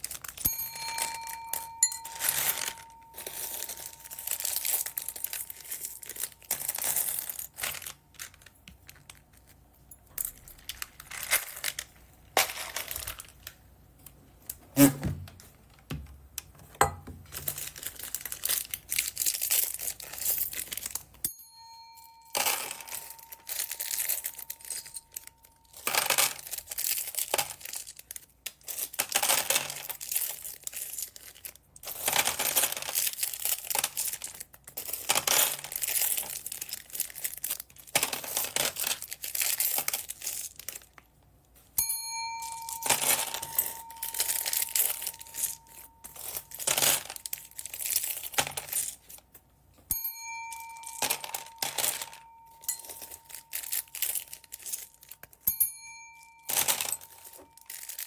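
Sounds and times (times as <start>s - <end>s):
plastic bags crinkling and tearing: 0.0s - 0.4s, 2.1s - 13.6s, 17.2s - 21.2s, 22.6s - 41.2s, 42.4s - 49.3s, 50.5s - 55.4s, 56.6s - 58.0s.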